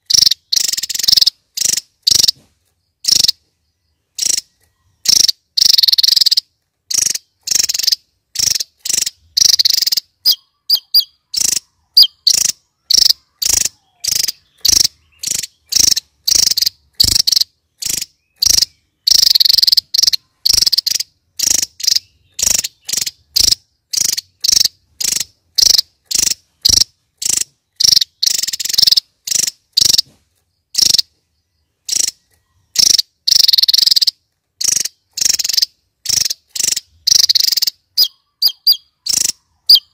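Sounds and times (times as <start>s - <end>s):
bird singing high-pitched notes: 0.0s - 39.9s.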